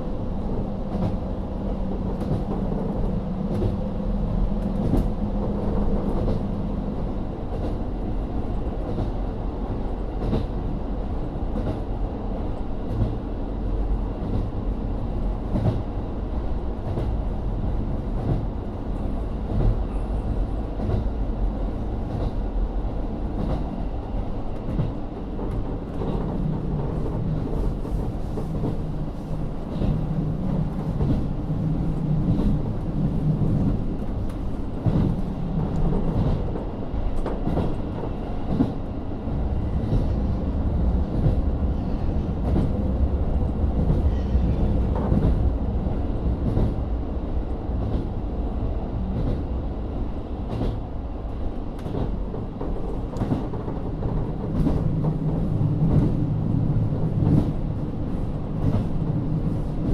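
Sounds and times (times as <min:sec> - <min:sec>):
diesel railcar engine running: 0:00.0 - 0:59.9
train rumble: 0:00.0 - 0:59.9.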